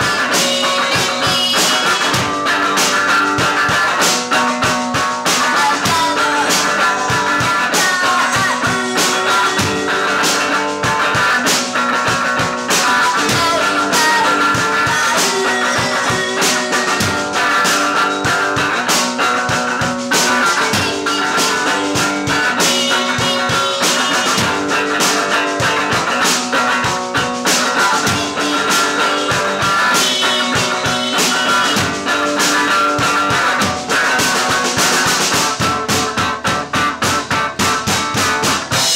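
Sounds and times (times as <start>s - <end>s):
drum beat: 0.0s - 38.9s
electric guitar: 0.0s - 38.9s.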